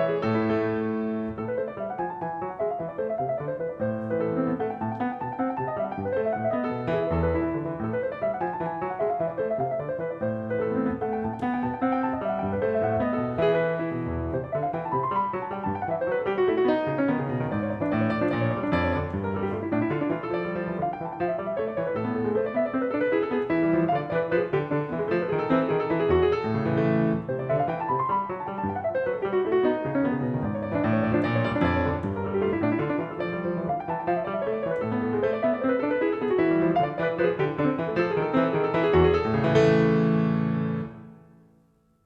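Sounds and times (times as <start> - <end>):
piano music: 0.0 - 41.8.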